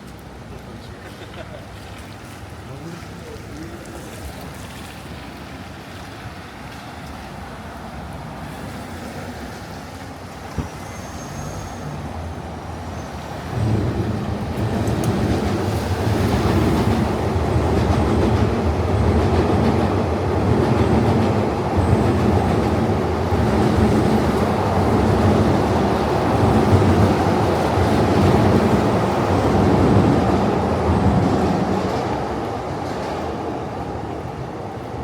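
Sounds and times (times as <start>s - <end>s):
train wheels rumbling on rail: 4.0s - 35.0s.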